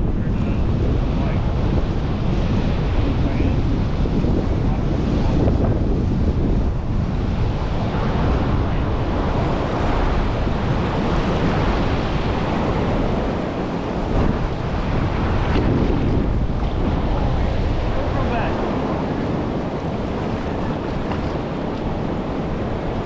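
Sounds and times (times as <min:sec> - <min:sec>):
surf breaking on beach: 0:00.0 - 0:23.0
wind buffeting microphone: 0:00.0 - 0:23.0.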